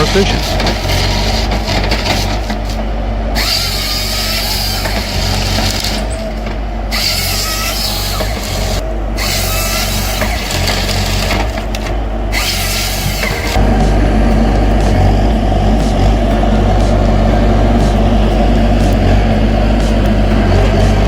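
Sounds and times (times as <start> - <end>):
heavy machine engine running: 0.0 - 21.0.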